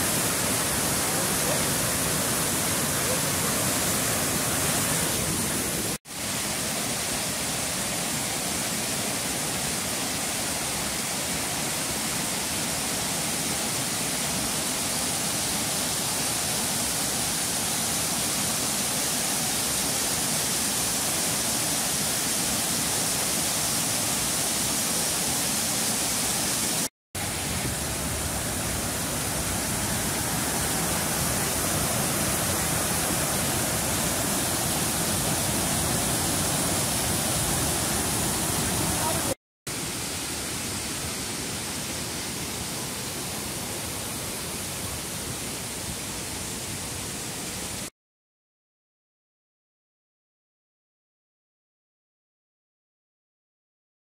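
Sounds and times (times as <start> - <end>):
stream rushing over rocks: 0.0 - 47.9.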